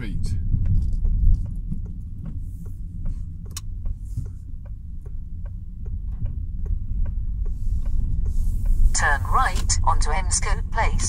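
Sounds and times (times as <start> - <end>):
engine and tyre rumble: 0.0 - 11.0
car turn indicator ticking: 0.3 - 11.0.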